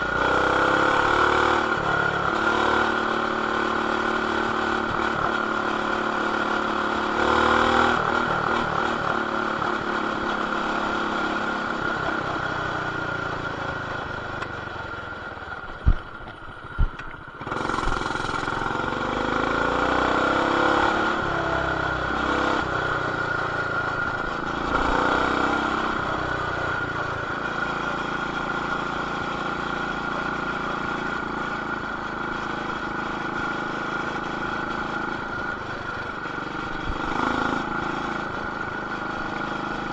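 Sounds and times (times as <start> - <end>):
mini bike engine running: 0.0 - 39.9.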